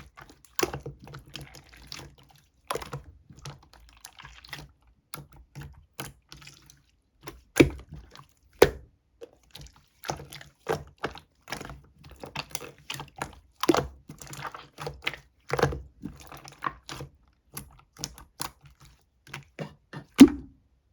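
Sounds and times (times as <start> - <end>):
slime squishing: 0.0 - 20.5.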